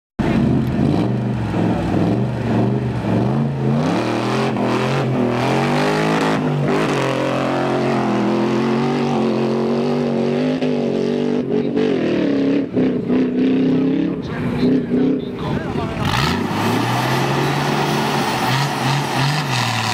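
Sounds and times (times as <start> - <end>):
engine accelerating hard: 0.2 - 19.9.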